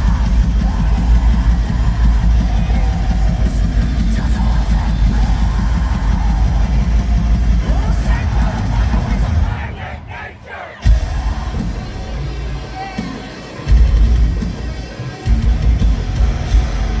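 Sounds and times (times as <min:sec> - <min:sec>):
live metal band playing: 0:00.0 - 0:09.8, 0:10.8 - 0:17.0
fast-pounding drums: 0:00.0 - 0:17.0.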